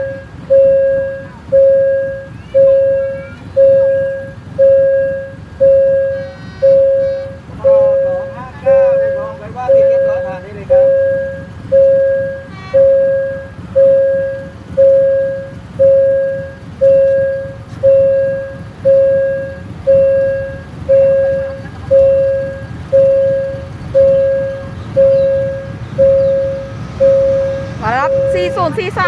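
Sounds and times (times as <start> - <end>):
level crossing bell ringing: 0.0 - 29.0
low rumble: 0.0 - 29.0.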